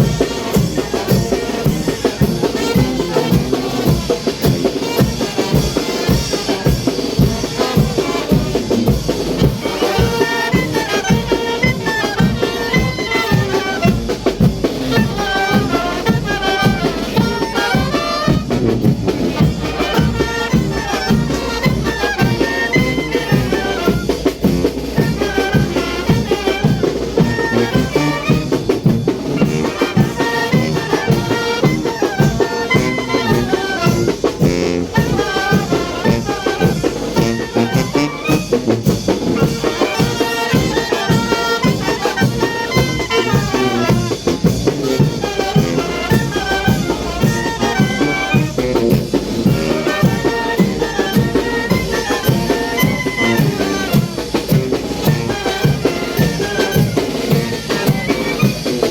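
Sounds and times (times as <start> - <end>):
brass band melody: 0.0 - 58.9
steady drum beat: 0.0 - 58.9.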